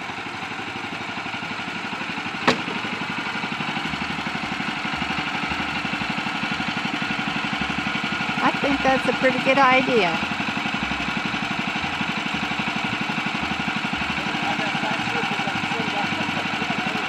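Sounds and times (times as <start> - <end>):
gasoline engine running: 0.0 - 17.0.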